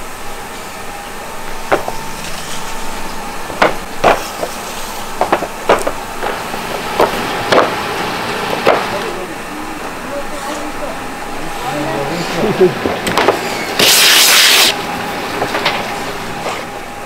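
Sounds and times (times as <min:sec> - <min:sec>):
factory background hum: 0:00.0 - 0:17.0.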